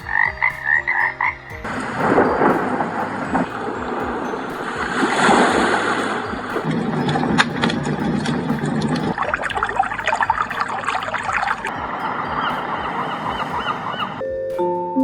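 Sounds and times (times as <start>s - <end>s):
recorded running water trickling: 0.0s - 13.9s.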